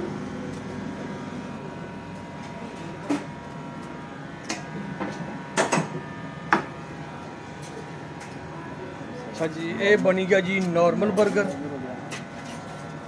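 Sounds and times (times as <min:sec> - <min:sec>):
kitchen equipment hum: 0:00.0 - 0:13.0.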